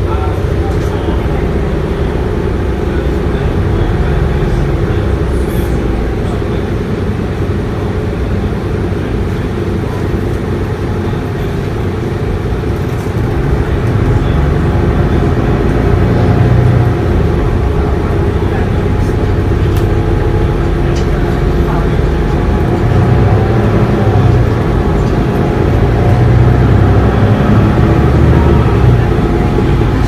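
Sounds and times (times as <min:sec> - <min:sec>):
bus diesel engine drone: 0:00.0 - 0:30.0
road noise: 0:00.0 - 0:30.0.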